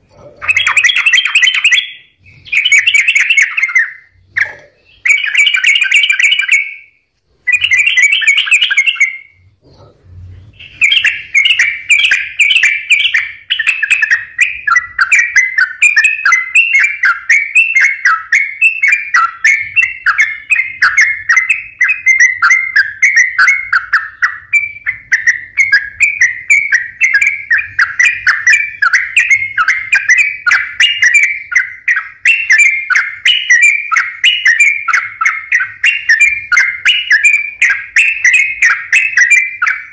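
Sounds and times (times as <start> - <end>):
bulbul singing chattering phrases: 0.0 - 9.9, 10.5 - 39.9.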